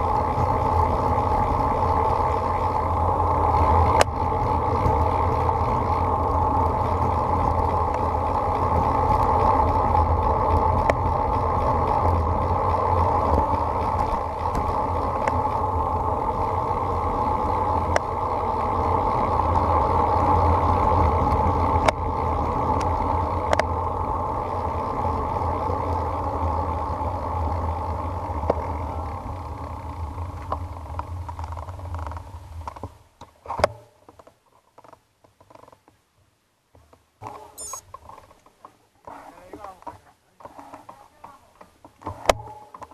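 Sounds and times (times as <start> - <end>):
bike tyres rolling on asphalt: 0.0 - 42.9.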